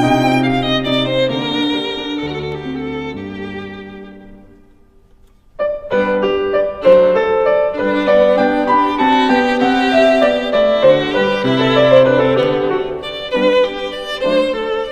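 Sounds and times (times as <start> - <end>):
violin and piano music: 0.0 - 4.9, 5.6 - 14.9.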